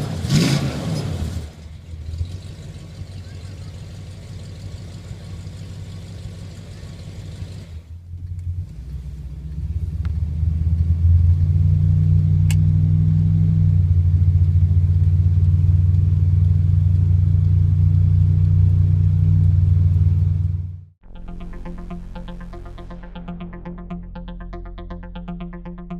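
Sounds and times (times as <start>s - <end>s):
engine exhaust rumble: 0.0s - 25.9s.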